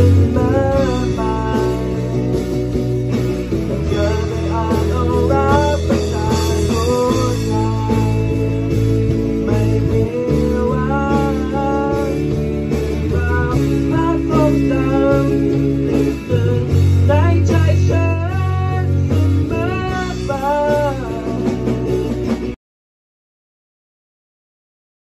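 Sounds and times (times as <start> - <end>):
bending lead guitar melody: 0.0 - 22.6
rock band playing live: 0.0 - 22.6.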